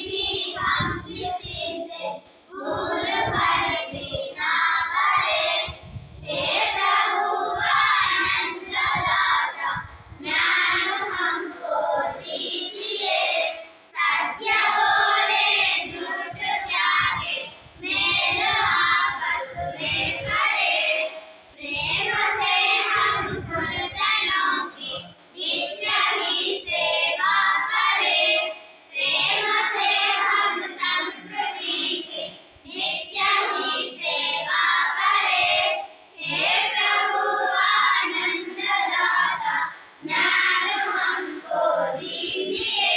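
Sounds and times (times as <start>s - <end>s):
children chanting a poem: 0.0s - 42.9s.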